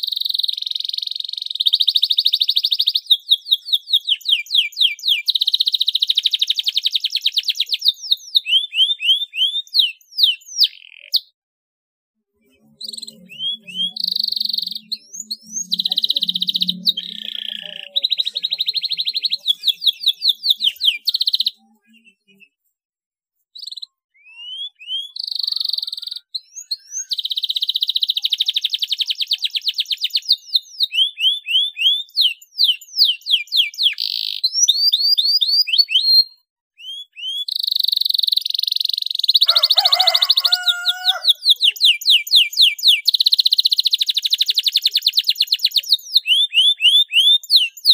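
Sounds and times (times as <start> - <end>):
canary singing trills: 0.0 - 11.3, 12.4 - 22.7, 23.5 - 47.9.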